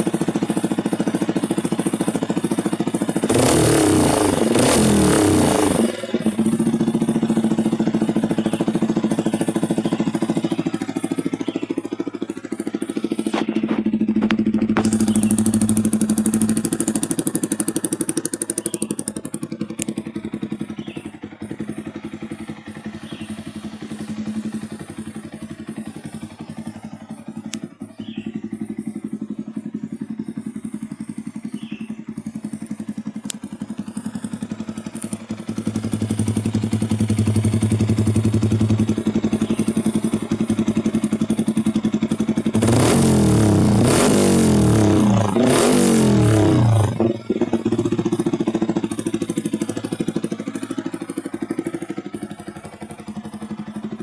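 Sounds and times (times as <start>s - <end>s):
motorcycle engine idling: 0.0s - 54.0s
motorcycle engine revving: 0.0s - 54.0s.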